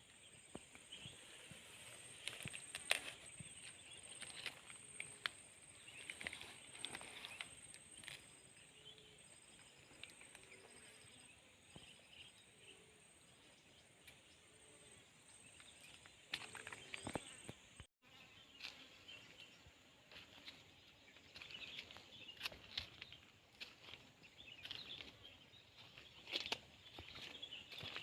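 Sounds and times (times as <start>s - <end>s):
faint insects chirping: 0.0s - 28.0s.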